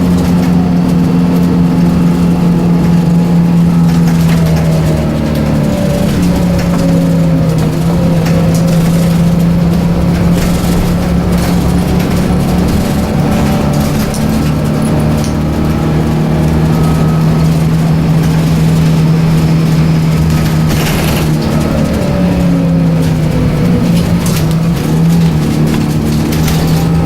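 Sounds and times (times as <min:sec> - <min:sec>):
bus engine humming: 0:00.0 - 0:27.0.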